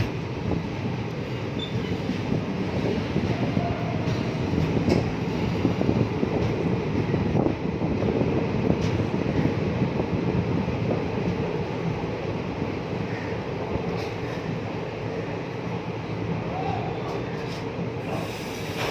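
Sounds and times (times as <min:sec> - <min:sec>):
train rumbling on tracks: 0:00.0 - 0:18.9.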